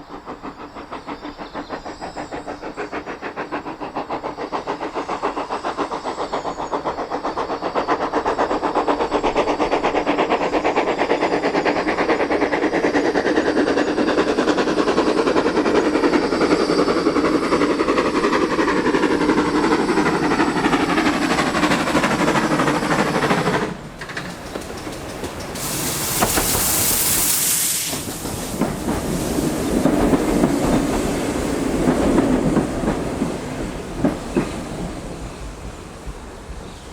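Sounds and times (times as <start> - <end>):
loud hiss of steam: 0.0 - 36.9
steam locomotive beats: 0.0 - 36.9.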